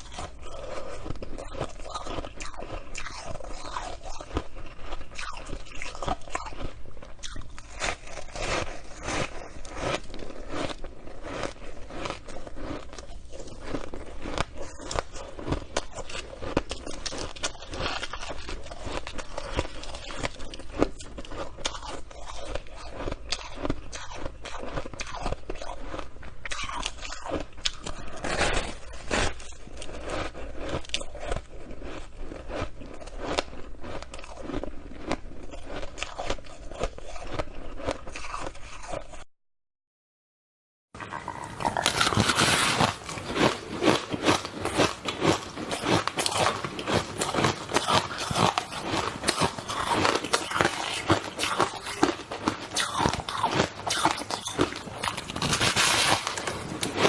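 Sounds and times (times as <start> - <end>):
crunching and chewing ice: 0.0 - 39.3, 41.0 - 57.0.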